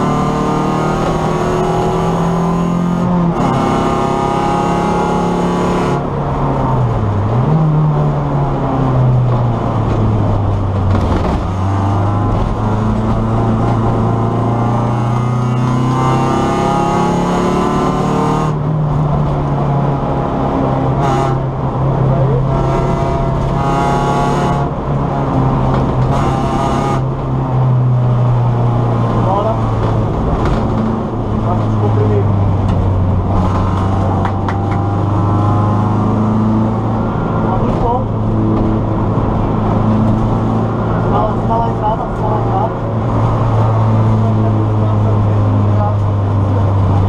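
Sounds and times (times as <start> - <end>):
race car engine running hard: 0.0 - 47.0.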